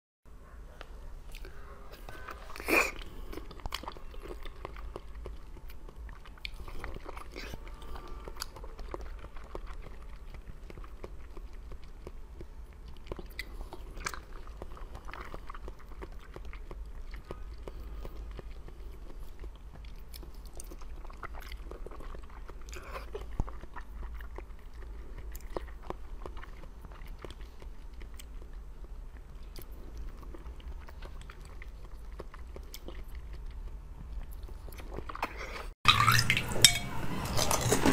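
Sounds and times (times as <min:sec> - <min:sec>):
steady low hum: 0:00.3 - 0:37.9
person chewing jelly: 0:00.7 - 0:37.9.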